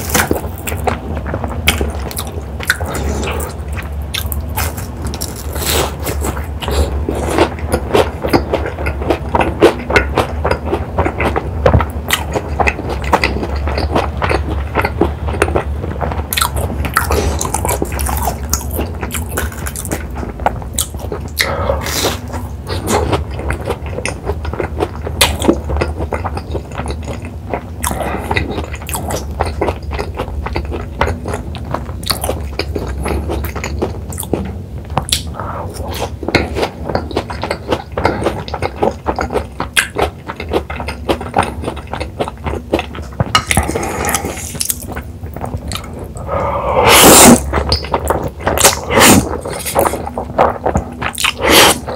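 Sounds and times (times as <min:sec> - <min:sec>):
crunching fried crust: 0:00.0 - 0:46.2
wet sticky chewing: 0:00.0 - 0:51.9.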